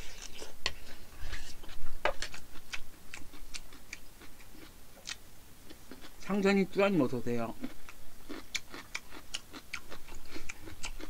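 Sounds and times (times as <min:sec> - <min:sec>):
person chewing food: 0:00.0 - 0:06.3, 0:07.6 - 0:11.0.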